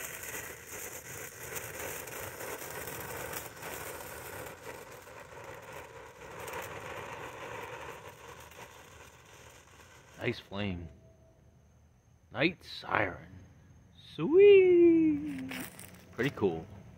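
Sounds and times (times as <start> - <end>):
firework fountain hissing sparks: 0.0 - 10.9, 14.1 - 16.9.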